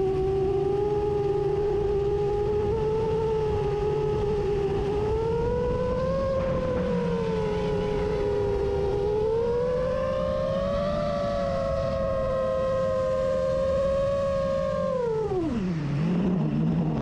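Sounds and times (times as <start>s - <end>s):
drone motors whining: 0.0s - 17.0s
low rumble: 0.0s - 17.0s.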